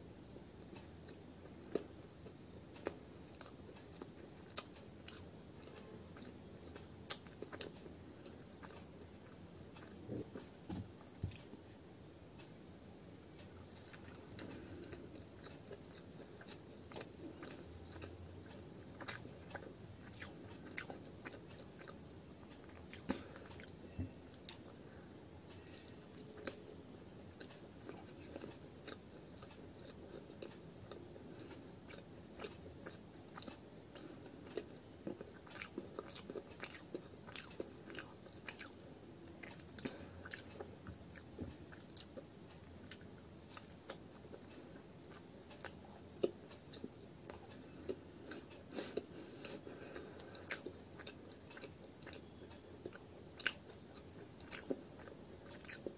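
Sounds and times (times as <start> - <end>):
person chewing crunchy food: 0.6 - 11.6, 13.4 - 24.8, 27.3 - 55.9.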